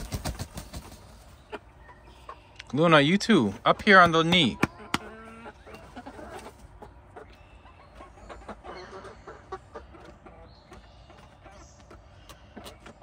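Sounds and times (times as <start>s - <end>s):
hens clucking softly: 0.0s - 13.0s.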